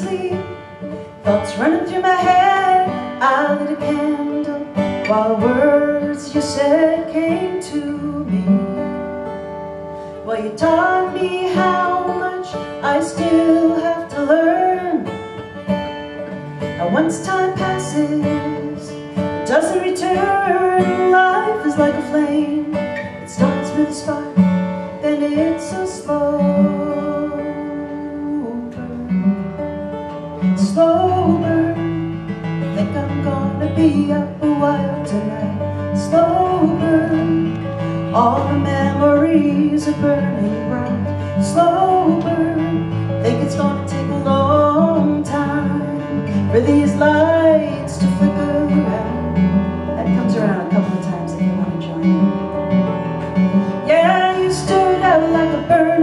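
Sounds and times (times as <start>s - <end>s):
acoustic guitar strumming: 0.0s - 56.0s
woman singing folk song: 0.0s - 56.0s.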